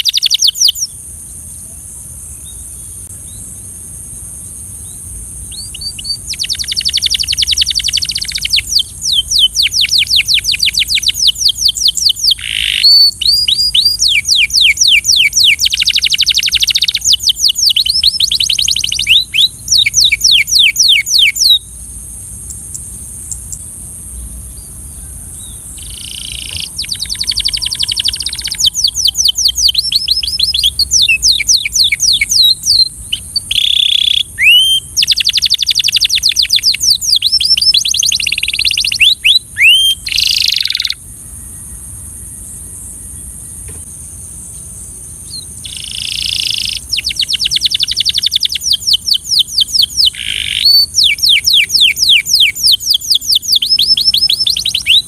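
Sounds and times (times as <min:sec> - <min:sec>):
canary singing trills: 0:00.0 - 0:01.0, 0:04.8 - 0:41.0, 0:45.2 - 0:55.0
steady high hiss: 0:00.0 - 0:55.0.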